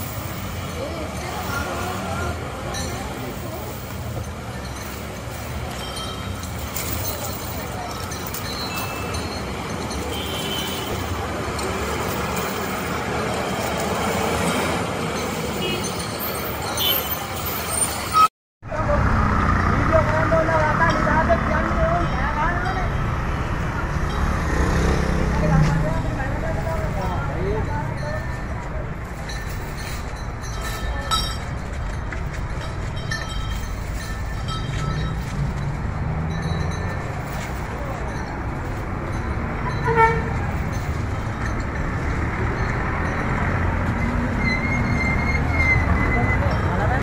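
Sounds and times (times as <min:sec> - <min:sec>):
heavy vehicle engines: 0:00.0 - 0:47.0
road traffic: 0:00.0 - 0:47.0.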